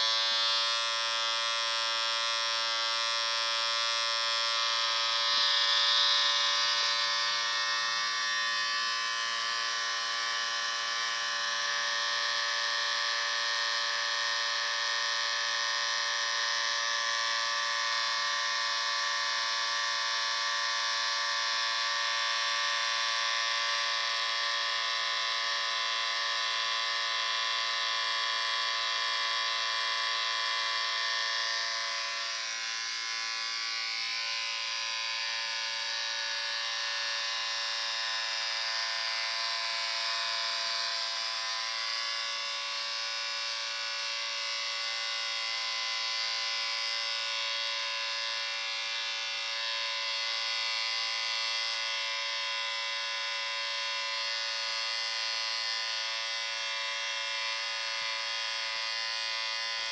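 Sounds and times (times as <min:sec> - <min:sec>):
electric shaver buzzing: 0:00.0 - 0:59.9.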